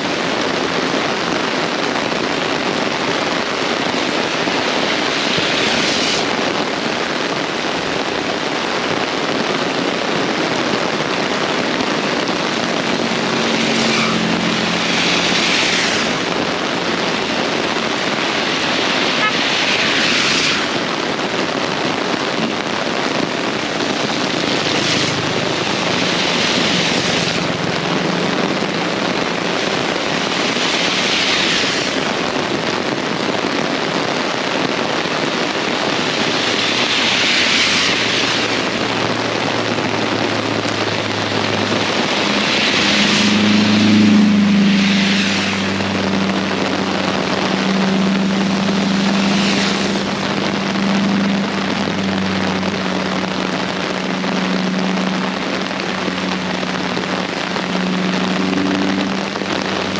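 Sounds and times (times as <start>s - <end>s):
heavy rain: 0.0s - 59.9s
low engine hum: 0.0s - 59.9s.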